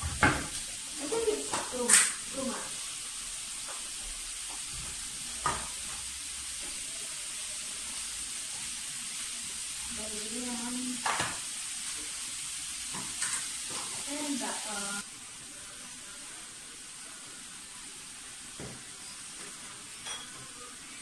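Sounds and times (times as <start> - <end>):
food sizzling in pan: 0.0 - 21.0.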